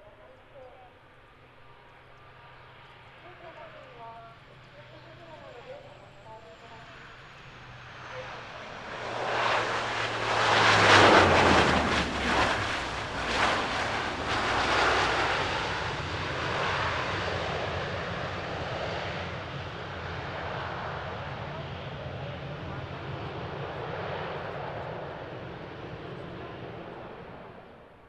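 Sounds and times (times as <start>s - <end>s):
turboprop plane rolling on runway: 0.0s - 28.0s.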